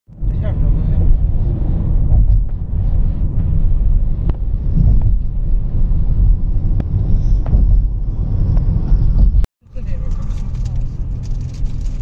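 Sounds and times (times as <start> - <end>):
car road noise rumble: 0.1 - 12.0
wind buffeting microphone: 0.1 - 12.0.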